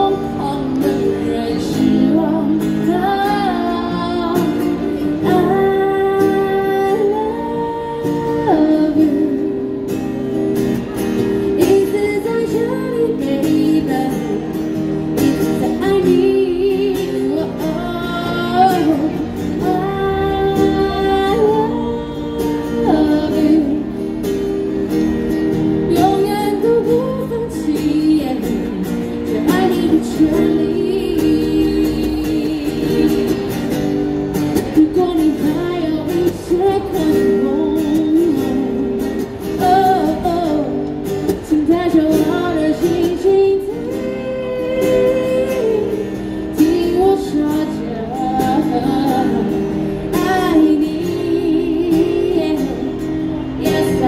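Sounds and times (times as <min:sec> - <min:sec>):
woman singing: 0:00.0 - 0:10.4, 0:11.2 - 0:24.8, 0:25.6 - 0:33.9, 0:34.5 - 0:54.0
acoustic guitar strumming: 0:00.0 - 0:54.0.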